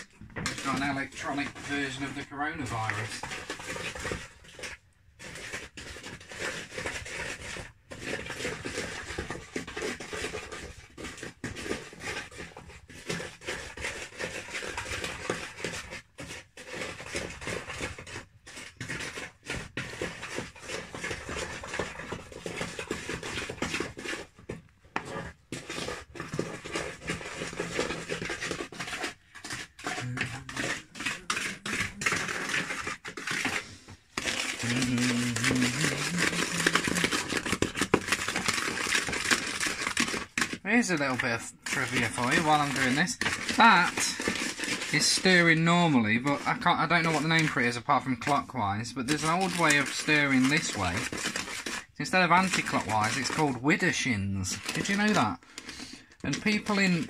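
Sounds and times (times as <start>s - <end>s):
utensil scraping mixing bowl: 0.0s - 57.0s.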